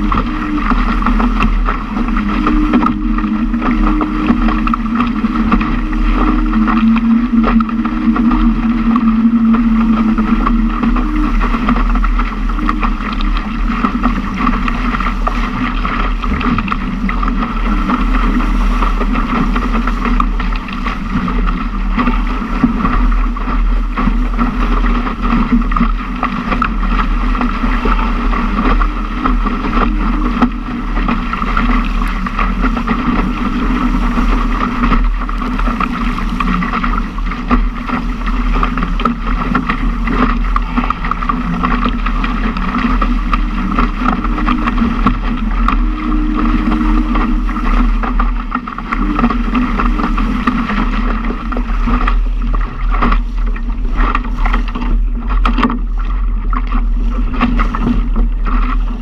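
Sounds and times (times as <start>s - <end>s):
water splashing against hull: 0.0s - 59.0s
wind noise on microphone: 0.0s - 59.0s.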